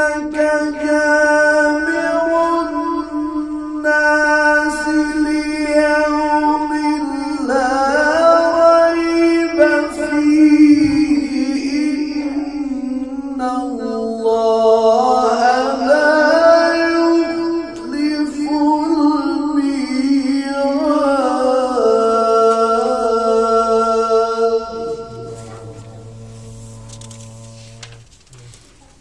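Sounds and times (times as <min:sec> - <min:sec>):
man chanting melodic recitation: 0:00.0 - 0:29.0.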